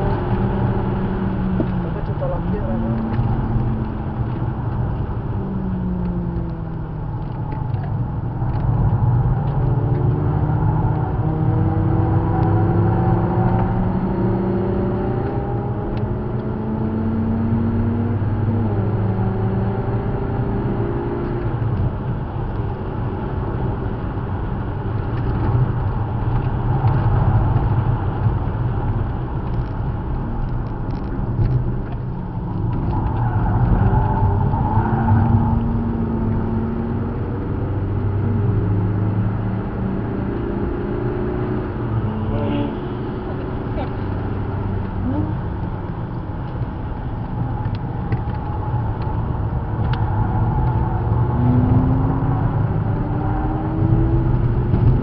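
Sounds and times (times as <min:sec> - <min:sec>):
car engine revving: 0:00.0 - 0:29.5, 0:30.1 - 0:55.0
road and tyre noise: 0:00.0 - 0:55.0.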